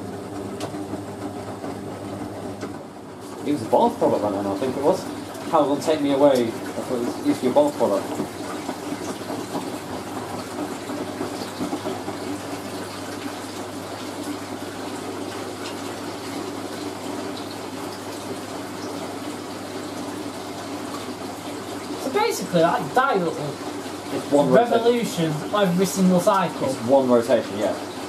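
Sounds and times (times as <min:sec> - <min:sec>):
water pouring into washing machine: 0:00.0 - 0:28.0.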